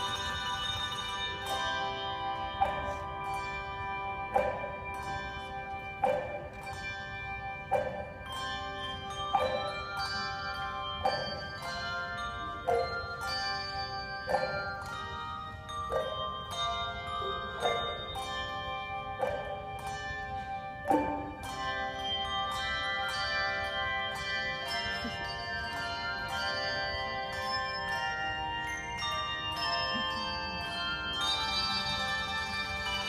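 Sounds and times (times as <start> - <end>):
handbell choir playing: 0.0 - 33.0.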